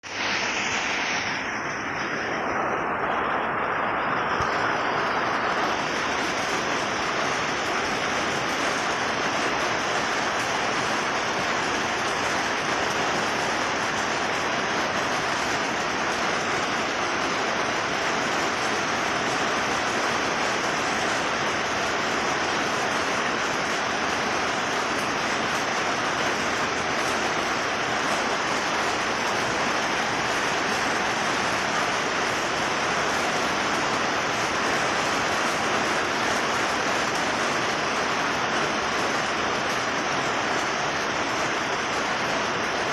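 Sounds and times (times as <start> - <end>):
rain falling on a roof: 0.0 - 42.9.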